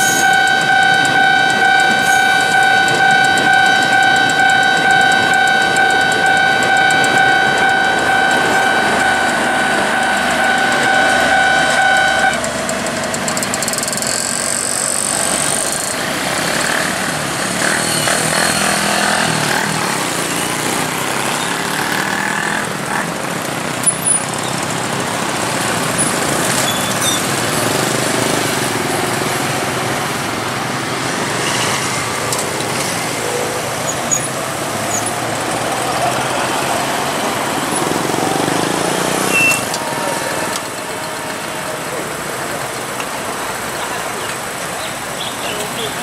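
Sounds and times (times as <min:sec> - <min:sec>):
diesel train engine running: 0:00.0 - 0:46.0.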